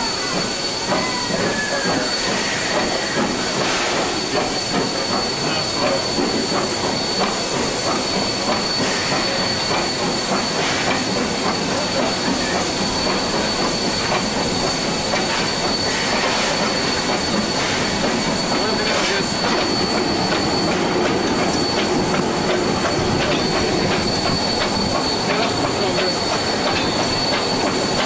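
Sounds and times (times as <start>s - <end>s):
train rolling rumble: 0.0s - 28.0s.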